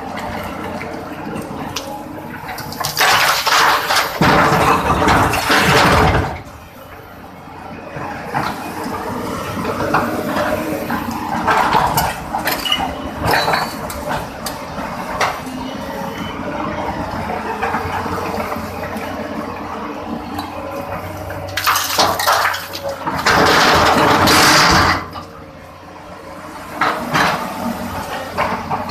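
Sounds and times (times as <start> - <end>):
excavator engine running: 0.0 - 28.9.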